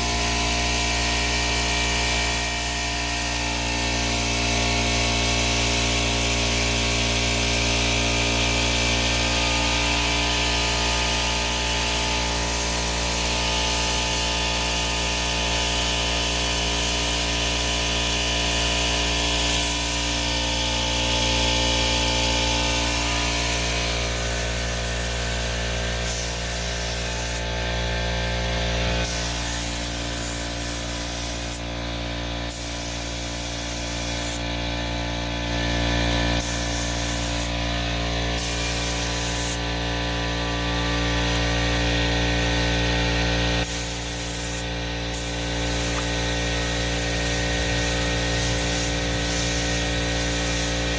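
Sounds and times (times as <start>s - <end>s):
machine hum: 0.0s - 50.9s
paint spray gun hissing: 0.0s - 50.9s.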